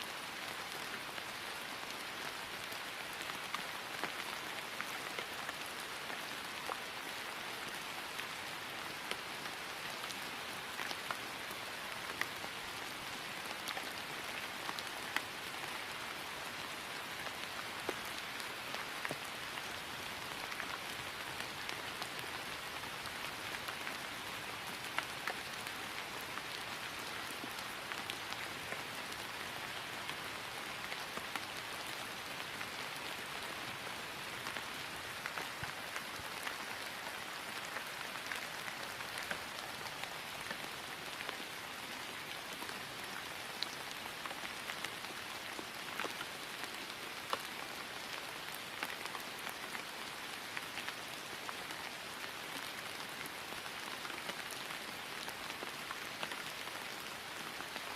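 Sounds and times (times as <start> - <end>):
rain falling on grass: 0.0 - 57.9.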